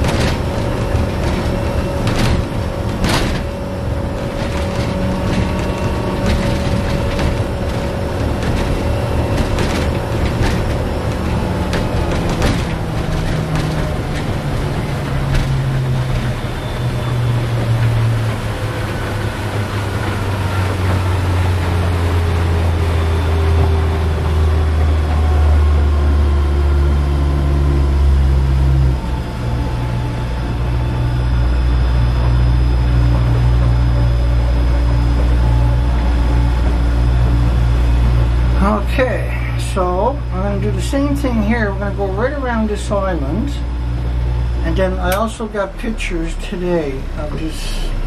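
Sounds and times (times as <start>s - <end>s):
outboard motor running: 0.0s - 48.0s.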